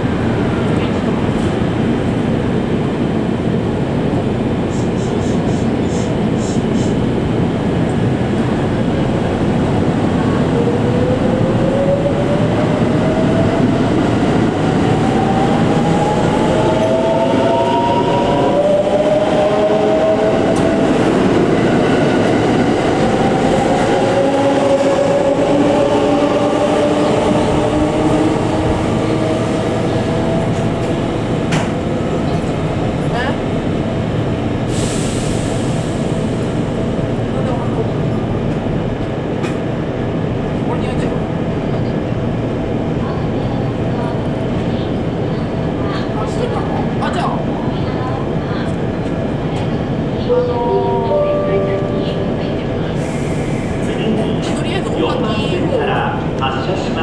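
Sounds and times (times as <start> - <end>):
train wheel and running noise: 0.0 - 57.0.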